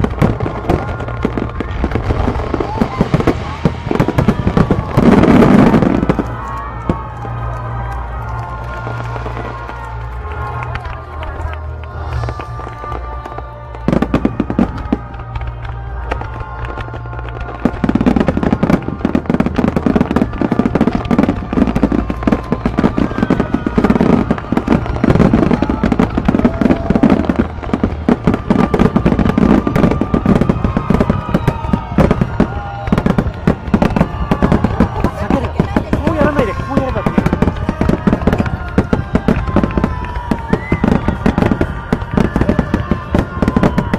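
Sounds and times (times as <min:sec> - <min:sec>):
fireworks bangs and crackles: 0:00.0 - 0:43.9
music playing: 0:00.0 - 0:43.9.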